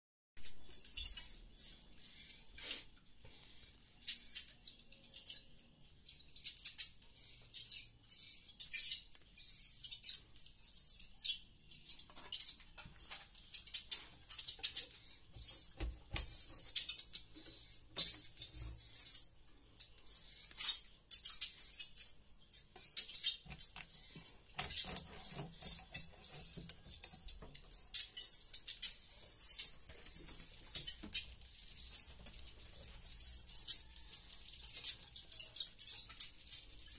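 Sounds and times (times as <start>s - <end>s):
bird chirping through speakers: 0.4s - 36.9s.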